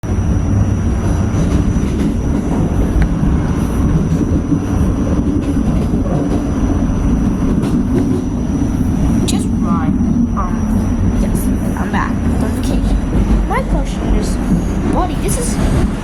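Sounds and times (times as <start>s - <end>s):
subway train wheels rumbling on rails: 0.0s - 16.0s.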